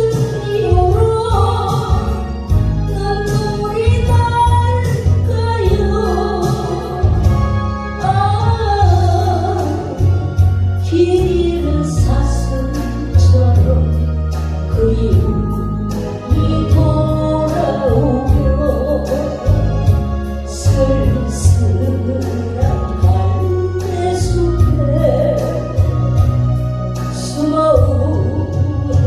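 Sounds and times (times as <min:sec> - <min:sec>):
bass notes: 0:00.0 - 0:29.0.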